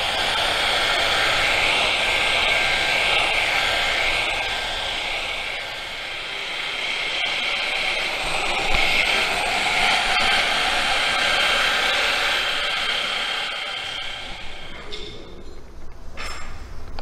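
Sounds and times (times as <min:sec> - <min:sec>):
electric polisher buffing metal: 0:00.0 - 0:15.1.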